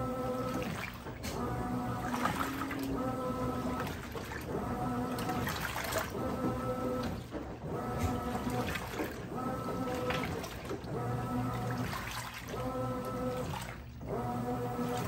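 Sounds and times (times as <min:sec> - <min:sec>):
washing machine motor whining: 0:00.0 - 0:15.0
water sloshing in drum: 0:00.0 - 0:15.0.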